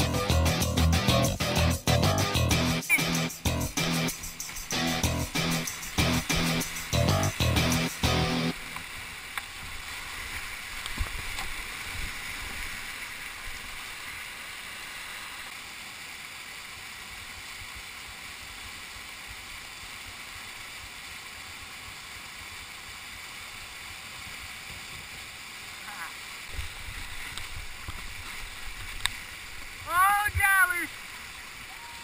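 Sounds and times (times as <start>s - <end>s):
whitewater rushing over rocks: 3.8s - 32.0s.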